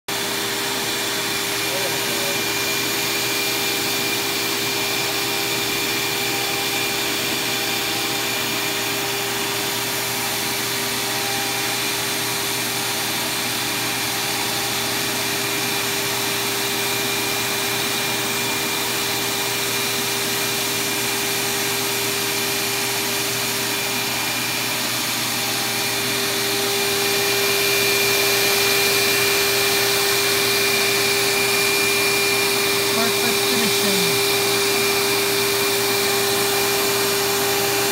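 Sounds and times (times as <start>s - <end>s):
router spindle whine: 0.1s - 37.9s.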